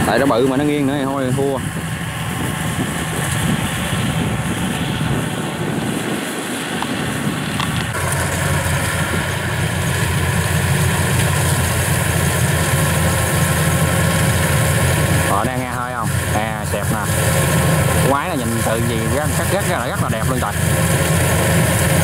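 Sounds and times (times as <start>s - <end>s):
combine harvester running: 0.0s - 22.0s
machinery whine: 0.0s - 22.0s.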